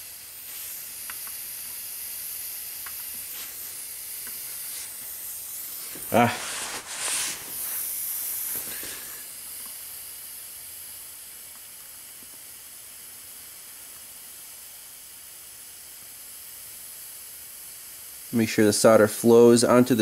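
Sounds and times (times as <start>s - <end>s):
soldering iron gas hiss: 0.0s - 20.0s.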